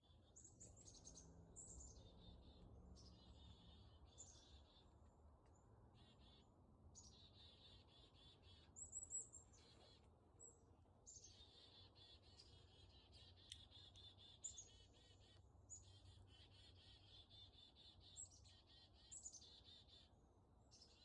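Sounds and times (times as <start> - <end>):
songbird singing with trill: 0.0 - 4.9, 7.0 - 20.1.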